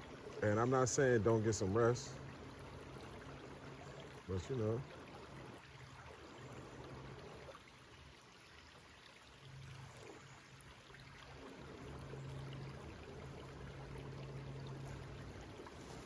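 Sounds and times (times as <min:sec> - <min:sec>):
water flowing: 0:00.0 - 0:16.0.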